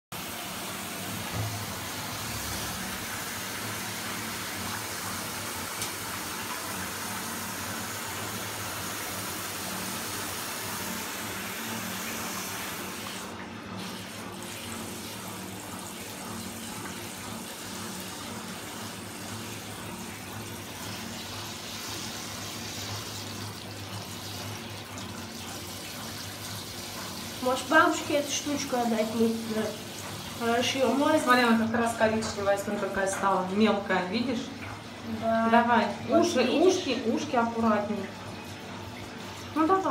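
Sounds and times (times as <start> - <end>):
shower water running into bathtub: 0.1 - 39.9.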